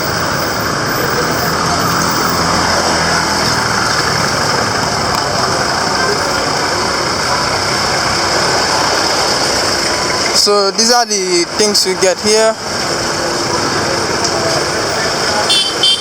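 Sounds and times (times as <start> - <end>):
road noise: 0.0 - 16.0
vehicle engines running and idling: 0.0 - 16.0.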